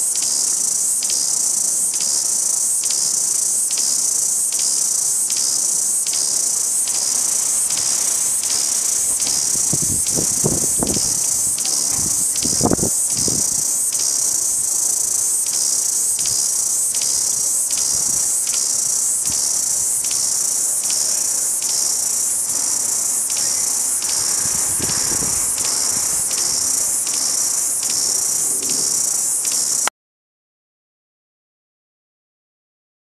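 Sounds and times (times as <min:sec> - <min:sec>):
cicada buzzing: 0:00.0 - 0:29.9.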